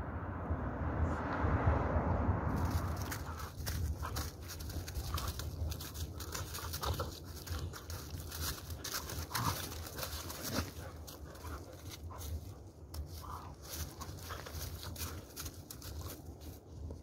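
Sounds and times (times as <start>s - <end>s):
dogs scuffling on dry grass: 2.5s - 17.0s.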